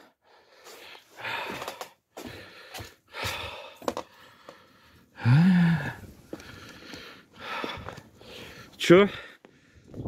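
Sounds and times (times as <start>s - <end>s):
man breathing hard: 0.0s - 10.0s
wind: 0.0s - 10.0s.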